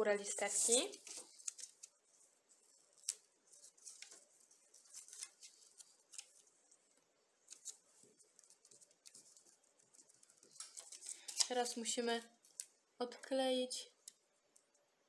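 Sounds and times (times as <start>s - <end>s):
paper rustling: 0.3s - 12.7s.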